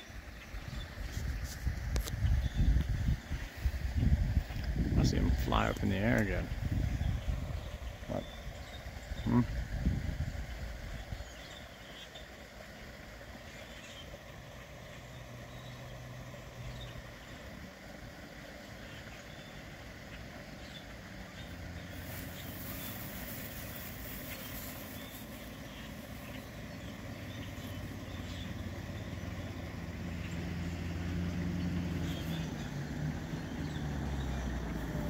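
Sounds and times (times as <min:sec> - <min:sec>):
blackbirds calling: 0:00.0 - 0:35.0
vehicle engine humming: 0:00.0 - 0:35.0.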